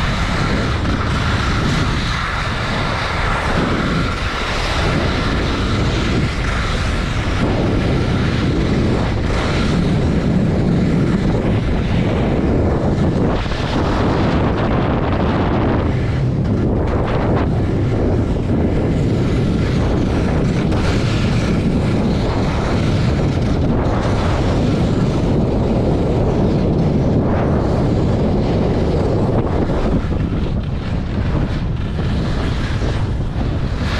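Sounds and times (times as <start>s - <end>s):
skis hissing over snow: 0.0s - 33.9s
wind buffeting microphone: 0.0s - 33.9s.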